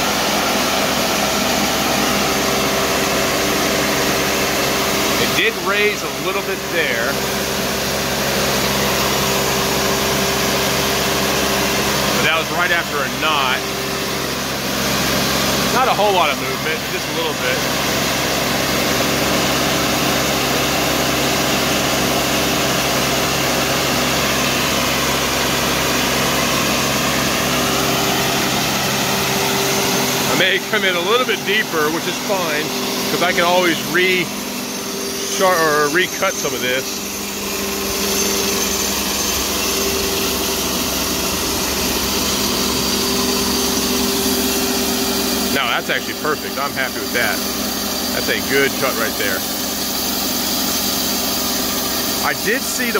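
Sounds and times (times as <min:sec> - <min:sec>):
band saw cutting log: 0:00.0 - 0:52.9
sawmill engine running: 0:00.0 - 0:52.9.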